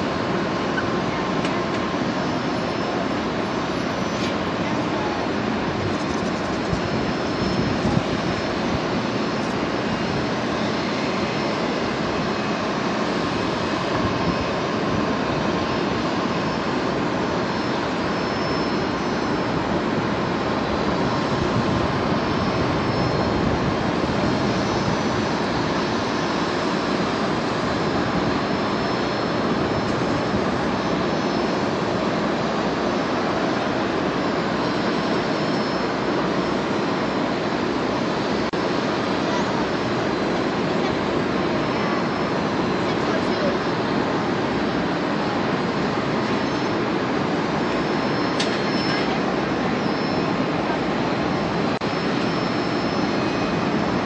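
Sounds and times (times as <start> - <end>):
jet engines rumbling with whine: 0.0 - 54.0.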